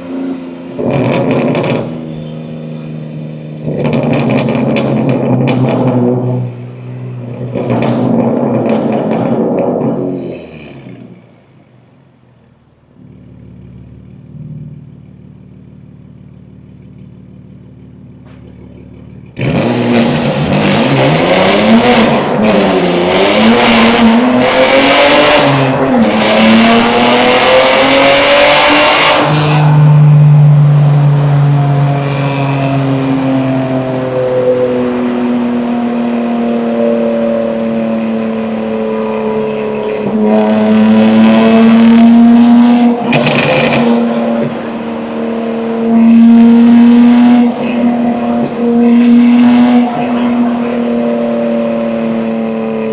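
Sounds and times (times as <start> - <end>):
car engine revving with loud exhaust: 0.0 - 52.9.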